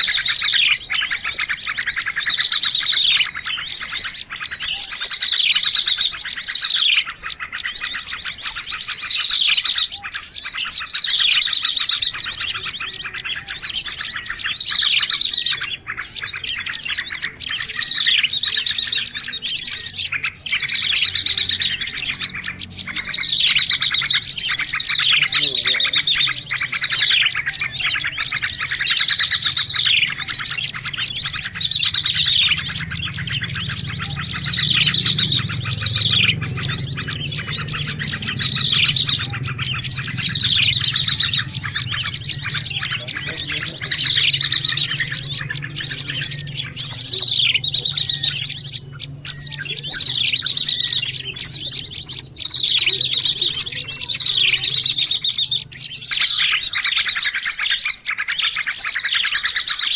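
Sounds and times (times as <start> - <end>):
songbirds chattering: 0.0 - 59.9.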